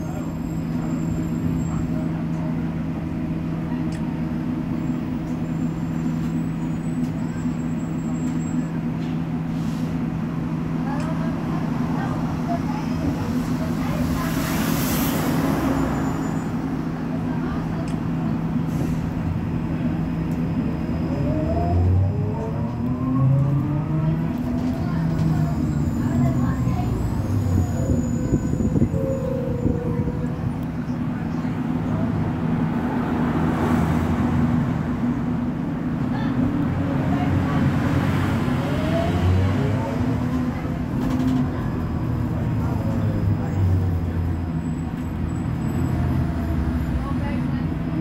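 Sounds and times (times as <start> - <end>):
trolleybus low hum: 0.0 - 48.0.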